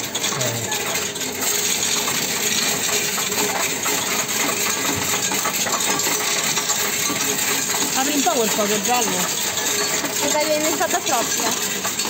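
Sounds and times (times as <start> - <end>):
coin counting machine rattling coins: 0.0 - 12.0.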